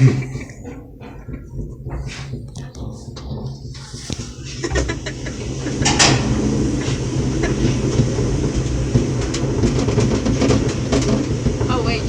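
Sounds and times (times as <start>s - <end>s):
rattling and clanks: 0.0s - 12.0s
tram low hum: 0.0s - 12.0s.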